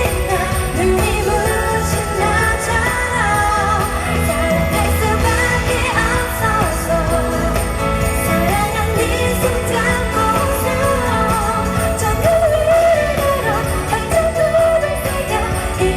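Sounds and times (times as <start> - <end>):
live band playing: 0.0 - 15.9
woman singing: 0.0 - 15.9.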